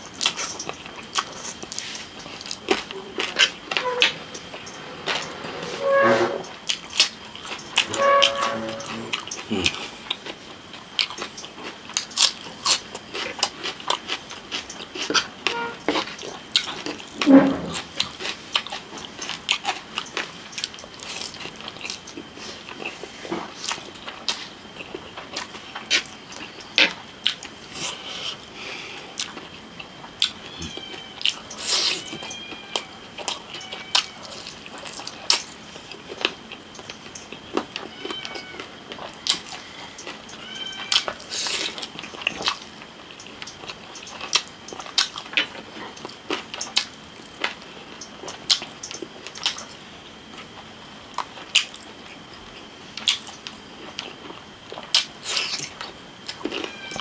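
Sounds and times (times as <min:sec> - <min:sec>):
chewing and slurping: 0:00.0 - 0:32.6, 0:33.2 - 0:49.8.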